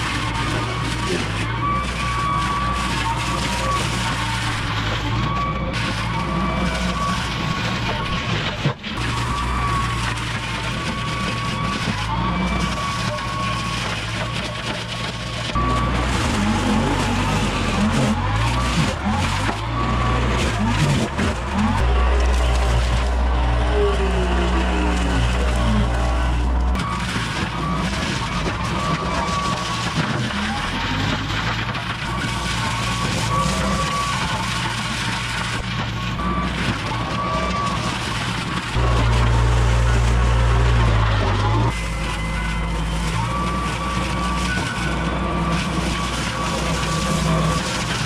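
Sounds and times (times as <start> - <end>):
diesel tractor engine under load: 0.0 - 48.0
mulcher chewing wood: 0.1 - 48.0.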